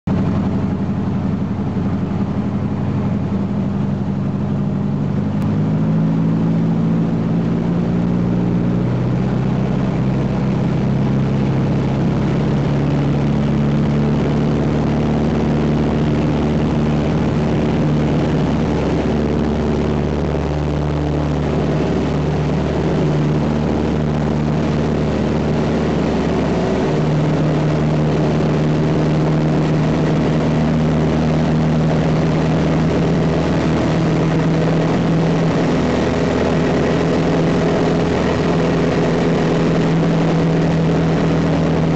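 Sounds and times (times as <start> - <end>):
propeller plane engine running: 0.0 - 41.9.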